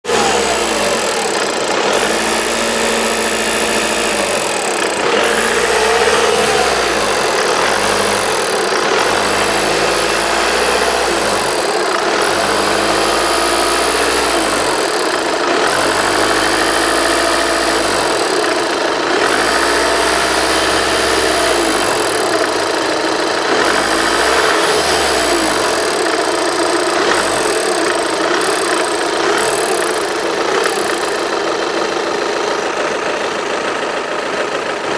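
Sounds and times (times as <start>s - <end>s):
diesel engine running: 0.0s - 34.9s
high-pitched rattle: 0.1s - 33.5s.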